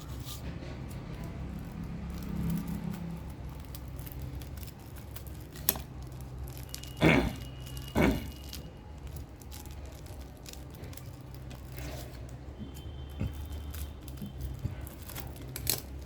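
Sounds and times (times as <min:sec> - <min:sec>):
packaging rattling and rustling: 0:00.4 - 0:16.0.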